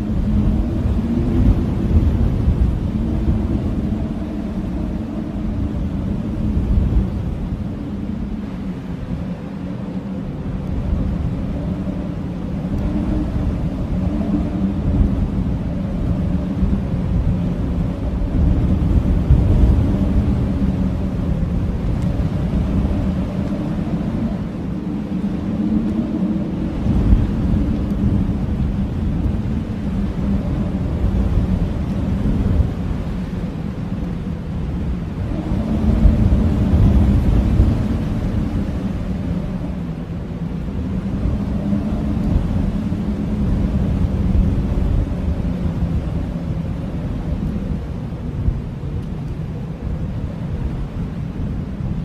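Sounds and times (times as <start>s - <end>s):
howling blizzard wind: 0.0s - 52.0s.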